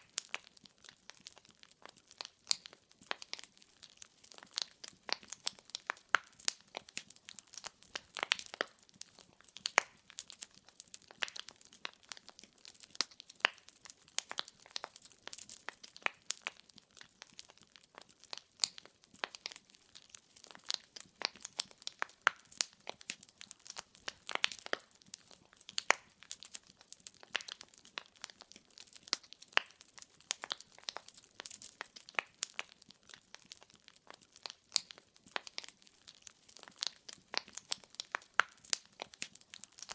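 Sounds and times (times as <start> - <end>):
logs crackling in a fireplace: 0.0 - 39.9.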